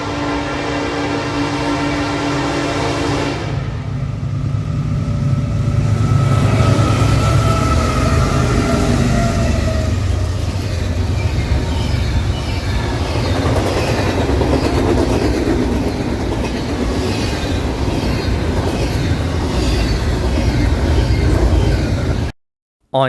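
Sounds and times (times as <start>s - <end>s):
train wheels rumbling on rail: 0.0s - 22.3s.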